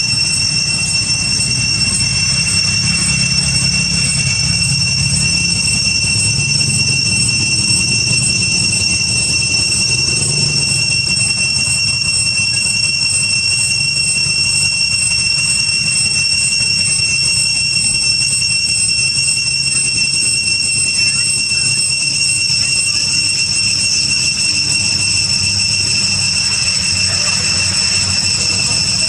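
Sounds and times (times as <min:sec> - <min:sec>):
high-pitched whine: 0:00.0 - 0:29.0.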